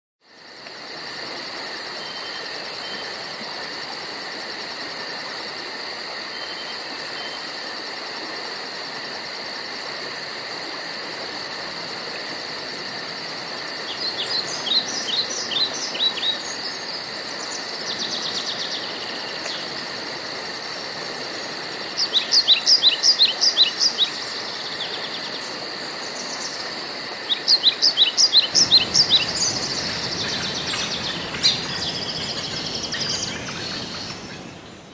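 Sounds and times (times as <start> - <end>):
insect chorus pulsing buzz: 0.2 - 34.9.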